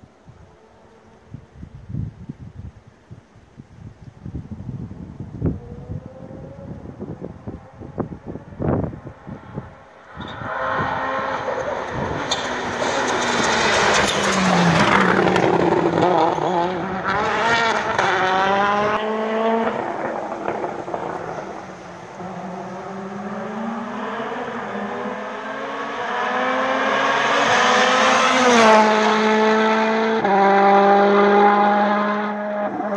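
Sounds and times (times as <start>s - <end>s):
rally car engine revving: 5.6s - 32.9s.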